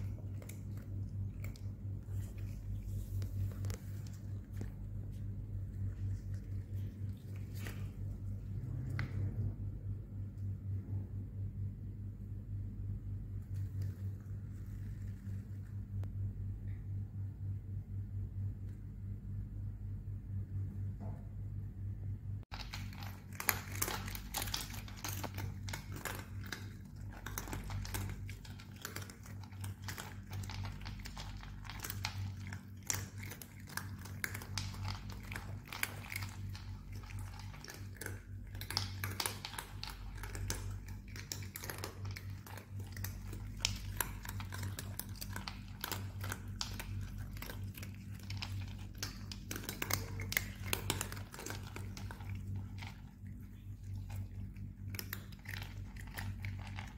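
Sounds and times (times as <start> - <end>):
cats crunching dry kibble: 0.0 - 9.5, 13.4 - 16.1, 22.5 - 56.9
steady low hum: 0.0 - 56.9.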